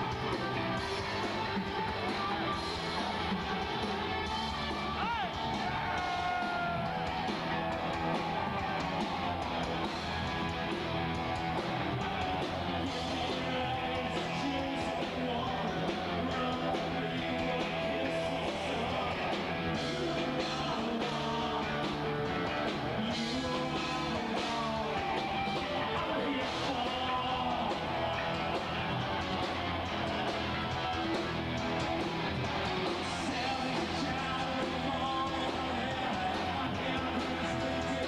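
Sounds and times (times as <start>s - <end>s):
live rock band with singing: 0.0s - 38.0s.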